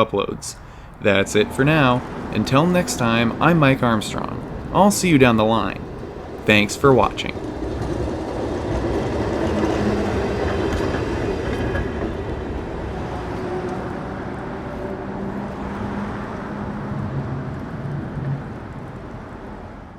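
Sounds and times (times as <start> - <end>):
wheels clicking on track: 0.0 - 19.7
streetcar running on rails: 0.0 - 19.9.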